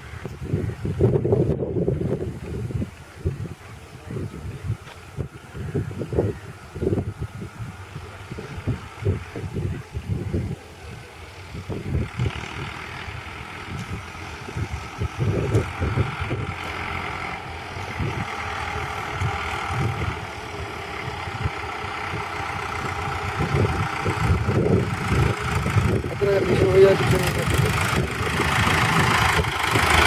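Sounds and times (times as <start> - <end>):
tractor engine running: 0.0 - 30.0
wind buffeting microphone: 0.0 - 30.0.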